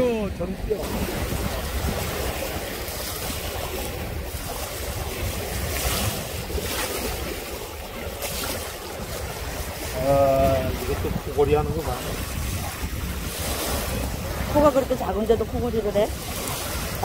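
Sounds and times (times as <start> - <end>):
small waves lapping: 0.0 - 17.0
wind buffeting microphone: 0.0 - 17.0.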